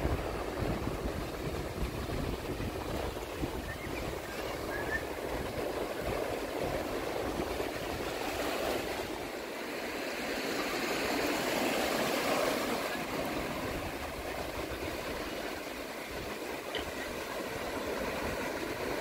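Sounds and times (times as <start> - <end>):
waves washing up shore: 0.0 - 19.0.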